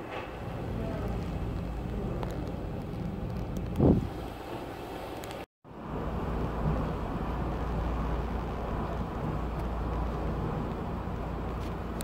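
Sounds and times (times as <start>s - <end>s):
driving rain: 0.0s - 12.0s
hurricane wind: 0.0s - 12.0s
wind buffeting microphone: 0.0s - 12.0s.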